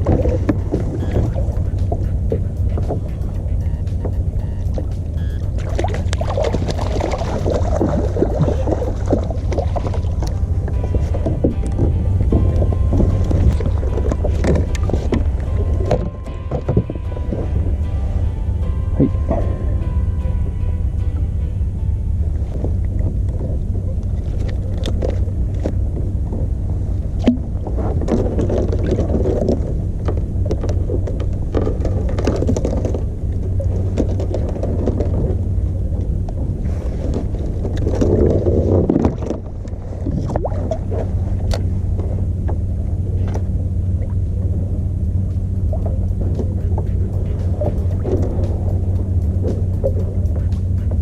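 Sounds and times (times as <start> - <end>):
small outboard motor running: 0.0 - 51.0
water splashing against hull: 0.0 - 51.0.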